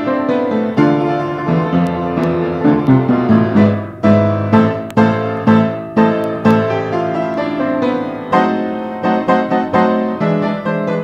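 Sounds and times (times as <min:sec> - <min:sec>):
lively piano music: 0:00.0 - 0:11.0.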